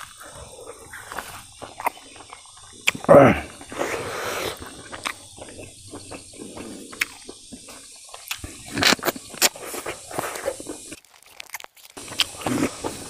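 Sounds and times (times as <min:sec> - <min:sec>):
chewing with mouth clicks: 0:00.0 - 0:03.8, 0:04.6 - 0:13.0
food crunching: 0:00.0 - 0:13.0
lip smacks: 0:00.7 - 0:12.9.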